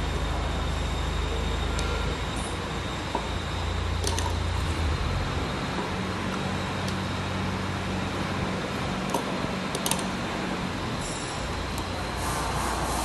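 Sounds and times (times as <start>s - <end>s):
workshop low hum: 0.0s - 13.0s.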